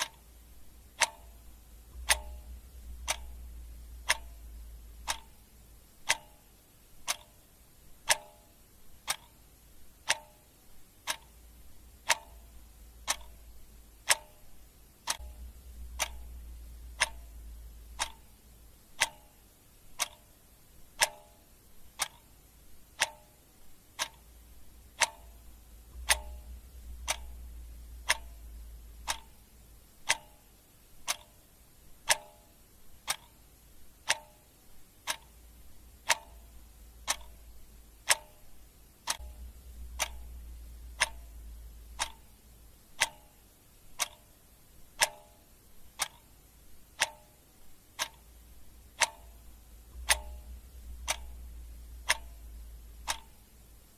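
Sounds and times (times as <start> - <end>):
clock ticking: 0.0 - 53.9
faint low hum: 0.0 - 53.9.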